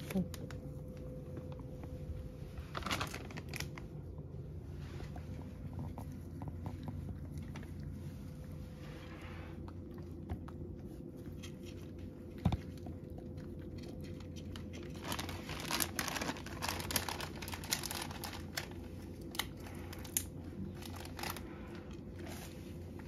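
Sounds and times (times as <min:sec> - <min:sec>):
cat crunching dry kibble: 0:00.0 - 0:23.0.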